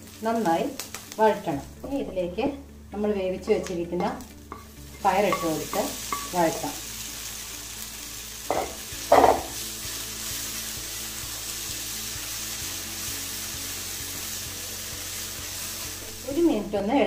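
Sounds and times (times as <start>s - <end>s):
beans sizzling in oil: 0.0s - 17.0s.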